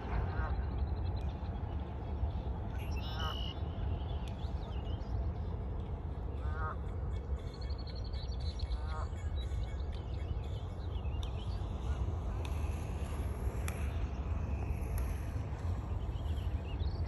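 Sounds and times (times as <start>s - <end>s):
steady low rumble: 0.0s - 17.0s
small birds chirping: 0.8s - 17.0s.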